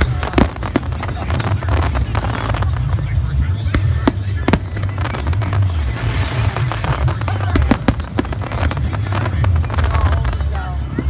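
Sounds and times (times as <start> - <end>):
firework shells bursting: 0.0 - 10.5
background music: 0.0 - 11.0.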